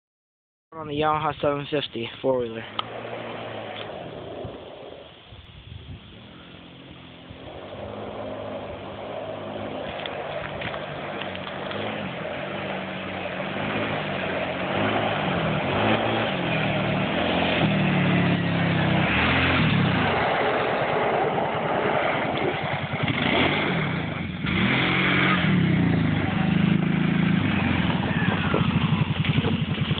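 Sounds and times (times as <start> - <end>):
quad engine revving: 2.6 - 5.2, 6.2 - 30.0.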